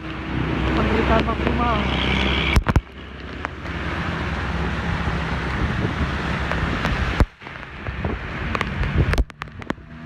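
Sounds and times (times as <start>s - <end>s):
rain and wind on road: 0.0s - 10.0s
vehicle engine running: 0.0s - 10.0s.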